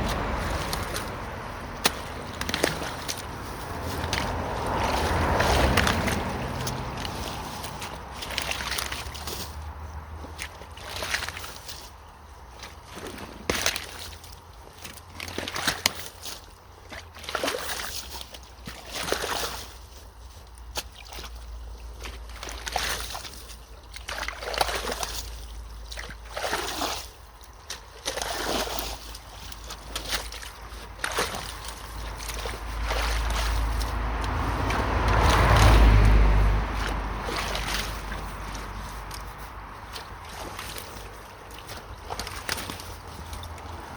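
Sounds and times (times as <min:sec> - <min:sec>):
water rushing with deep rumble: 0:00.0 - 0:43.9
water splashing and sloshing: 0:00.0 - 0:43.9.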